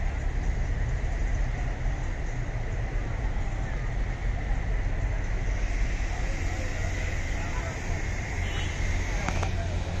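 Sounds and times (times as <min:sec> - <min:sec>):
street noise low rumble: 0:00.0 - 0:10.0.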